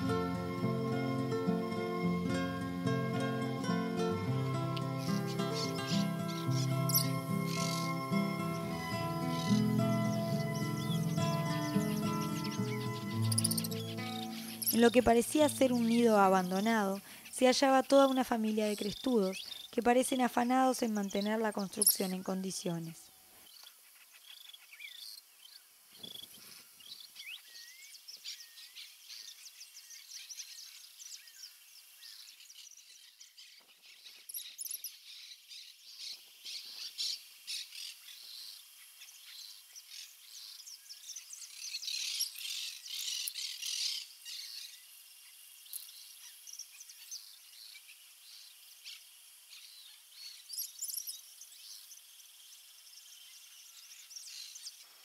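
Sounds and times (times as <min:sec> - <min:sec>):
birds chirping and chattering: 0:00.0 - 0:52.0.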